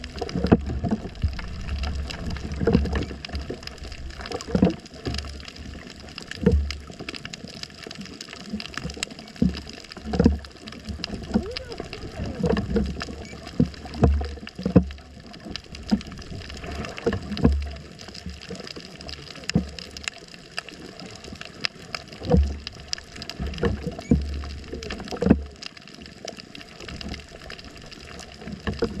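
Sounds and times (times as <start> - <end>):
sharp underwater clicks: 0.0 - 29.0
underwater gurgling and bubbling: 0.0 - 29.0.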